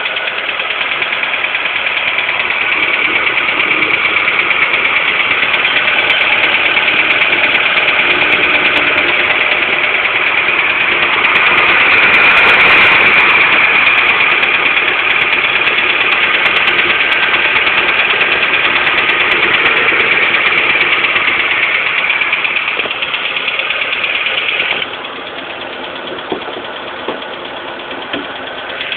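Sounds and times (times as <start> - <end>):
car engine idling: 0.0 - 28.9
high rough whirring: 0.0 - 28.9.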